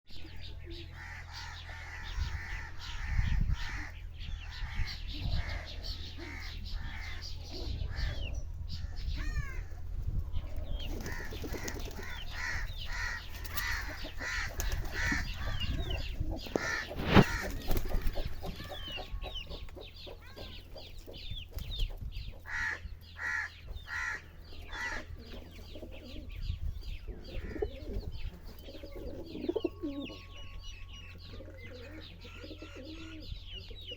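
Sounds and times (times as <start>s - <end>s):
pigeons cooing and chirping: 0.1s - 33.9s.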